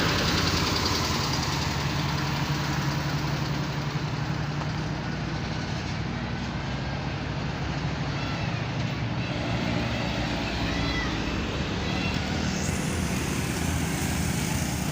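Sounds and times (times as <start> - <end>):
road noise: 0.0 - 14.9
truck diesel engine humming: 0.0 - 14.9.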